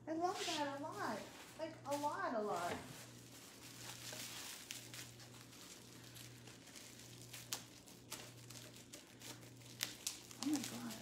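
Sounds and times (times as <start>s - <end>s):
rustling plastic packaging: 0.2s - 11.0s.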